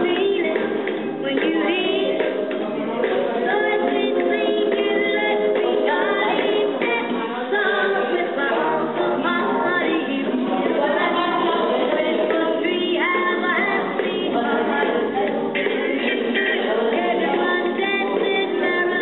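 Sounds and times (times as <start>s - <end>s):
song with singing voices: 0.0s - 19.0s.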